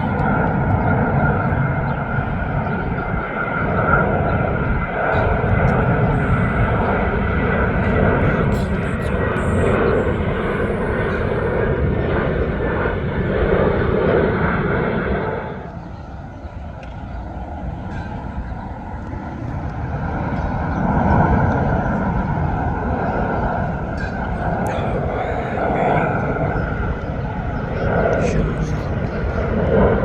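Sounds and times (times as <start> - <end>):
jet airliner engine noise: 0.0 - 30.0.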